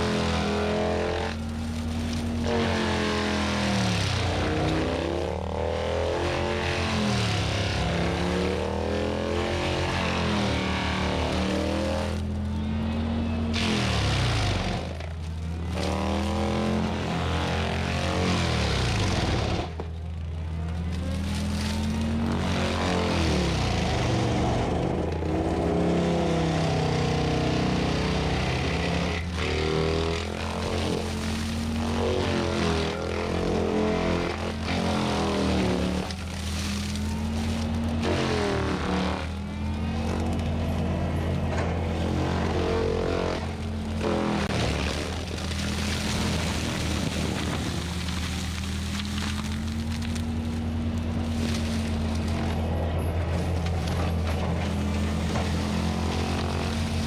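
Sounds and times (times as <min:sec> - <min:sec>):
diesel engine under changing load: 0:00.0 - 0:57.0.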